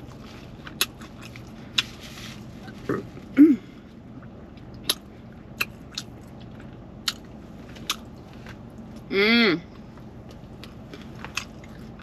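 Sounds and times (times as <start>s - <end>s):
person chewing food: 0.0s - 3.3s, 3.9s - 9.1s, 9.8s - 12.0s
low steady hum: 0.0s - 12.0s.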